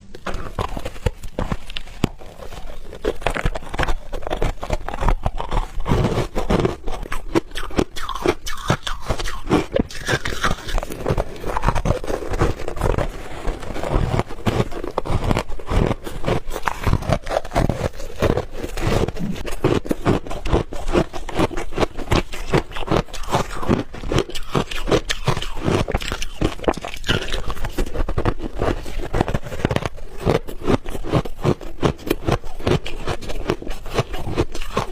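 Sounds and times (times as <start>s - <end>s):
ice crunching while chewed: 0.0s - 34.9s.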